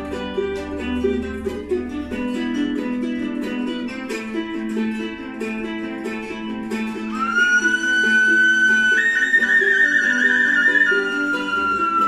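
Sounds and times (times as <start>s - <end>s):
strummed guitars playing folk tune: 0.0s - 12.0s.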